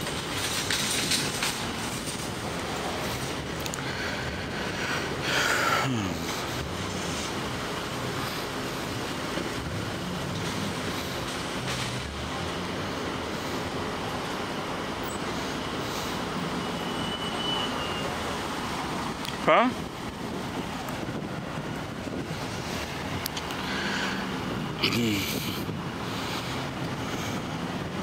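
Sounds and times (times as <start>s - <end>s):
vehicle traffic noise: 0.0s - 28.0s.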